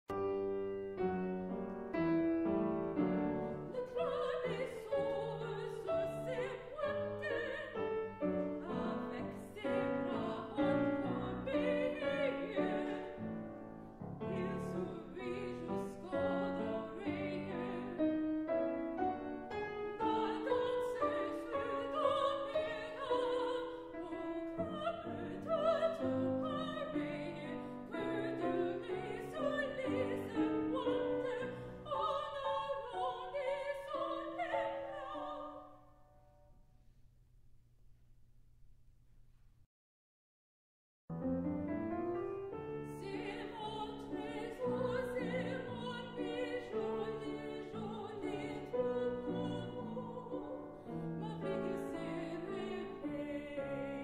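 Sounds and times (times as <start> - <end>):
piano accompaniment: 0.1 - 35.5, 41.1 - 54.0
soprano singing operatic song: 3.0 - 36.1, 42.6 - 54.0.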